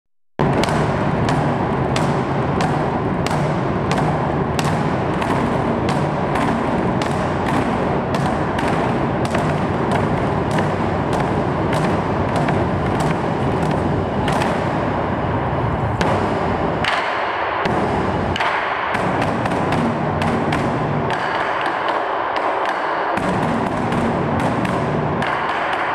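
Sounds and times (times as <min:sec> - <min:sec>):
large barrel drums beaten: 0:00.4 - 0:25.9.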